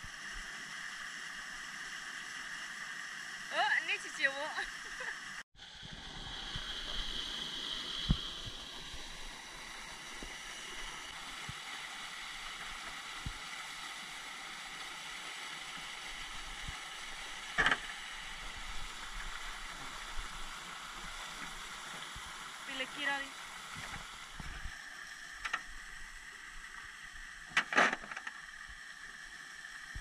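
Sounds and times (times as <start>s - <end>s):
steady water noise: 0.0s - 30.0s.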